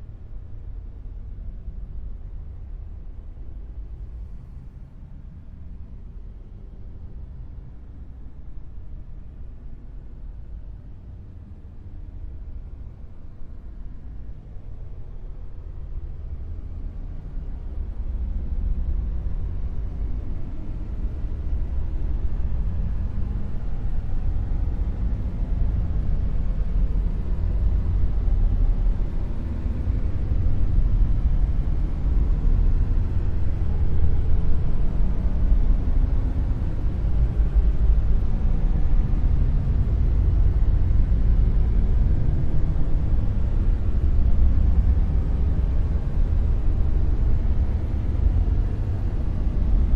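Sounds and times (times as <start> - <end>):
deep steady rumble: 0.0 - 49.9.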